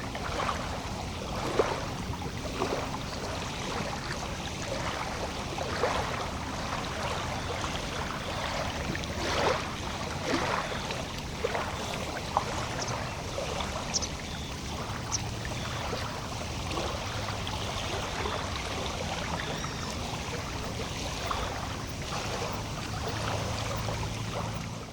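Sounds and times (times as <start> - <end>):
lake water lapping: 0.0 - 24.9.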